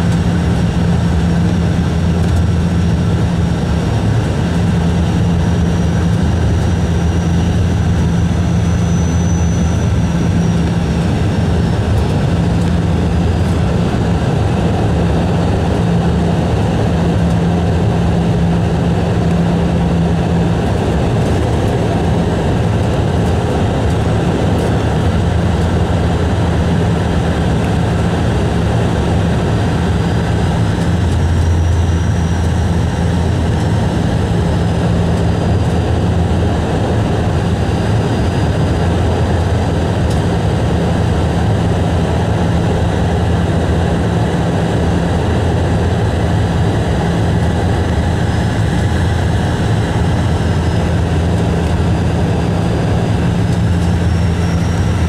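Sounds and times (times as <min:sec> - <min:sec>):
turboprop engine droning: 0:00.0 - 0:55.0.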